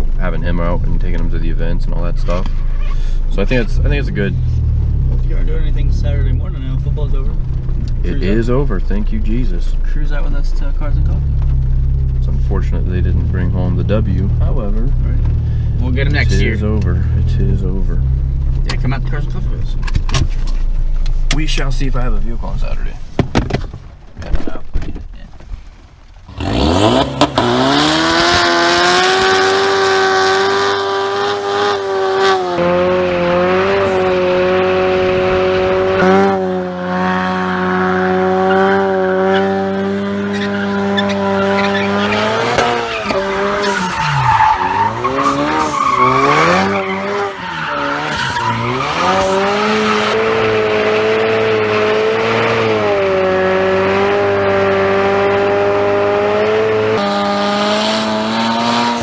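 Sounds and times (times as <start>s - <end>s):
car exhaust revving: 0.0s - 22.9s, 26.1s - 59.0s.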